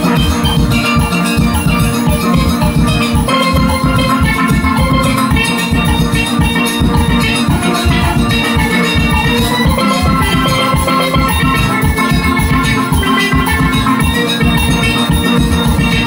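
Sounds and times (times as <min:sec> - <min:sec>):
driving drum beat: 0:00.0 - 0:16.0
steelpans ringing: 0:00.0 - 0:16.0.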